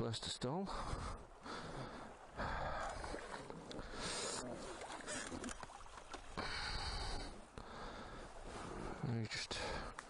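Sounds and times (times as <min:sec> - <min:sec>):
stream water splashing and rushing: 0:00.0 - 0:10.0.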